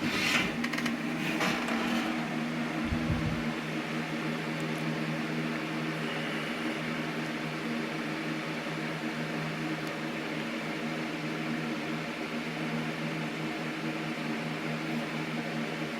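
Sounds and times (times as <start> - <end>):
fan motor hum with hiss: 0.0 - 15.9.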